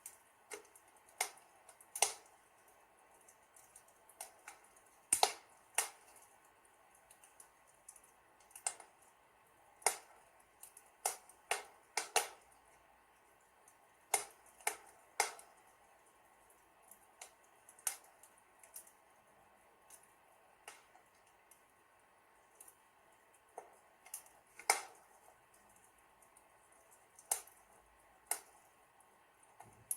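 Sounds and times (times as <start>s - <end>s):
fire crackling in a fireplace: 0.0s - 29.9s.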